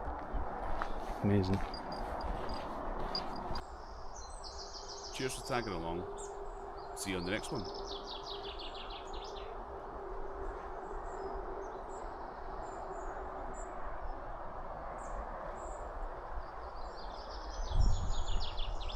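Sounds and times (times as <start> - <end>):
birds singing: 0.8 - 14.4, 15.0 - 18.9.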